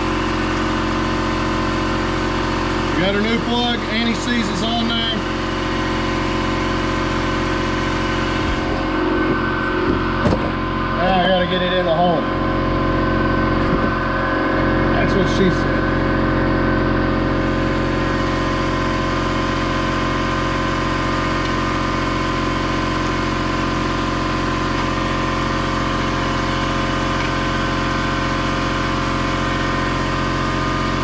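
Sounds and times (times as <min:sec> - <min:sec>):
steady machine hum: 0:00.0 - 0:31.0.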